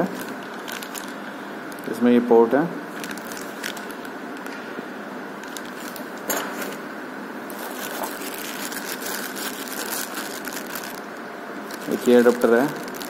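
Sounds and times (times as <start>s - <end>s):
plastic bag crinkling: 0.0s - 2.0s, 2.9s - 4.6s, 5.4s - 6.8s, 7.5s - 13.0s
steady background hiss: 0.0s - 13.0s.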